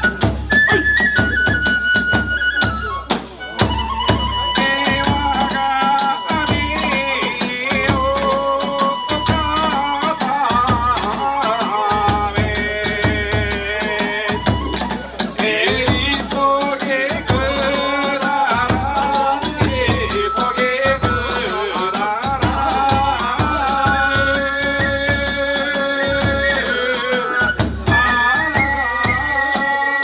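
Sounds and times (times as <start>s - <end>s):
bamboo flute melody: 0.0s - 30.0s
big drum beats: 0.0s - 30.0s.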